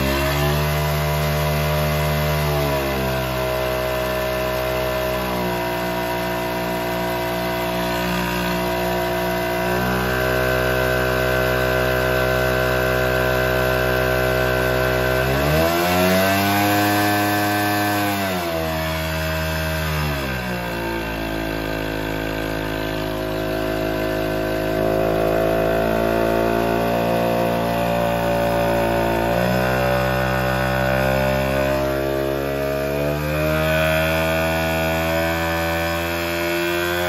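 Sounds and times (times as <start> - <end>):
small two-stroke engine under load: 0.0 - 37.0.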